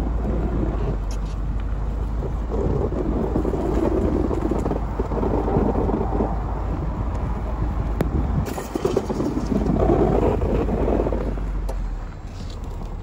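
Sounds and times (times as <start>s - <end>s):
engine running under load: 0.0s - 13.0s
plow blade pushing snow: 0.0s - 13.0s.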